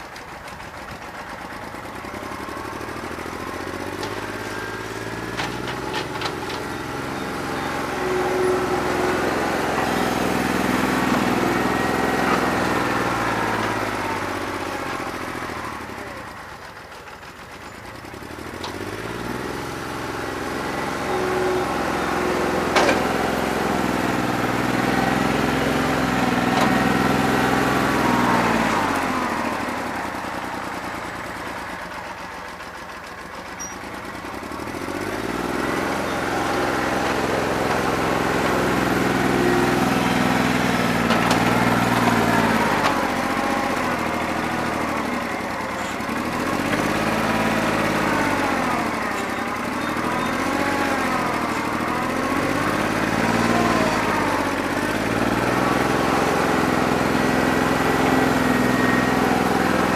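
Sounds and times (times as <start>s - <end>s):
diesel tractor engine running rough: 0.0s - 59.9s.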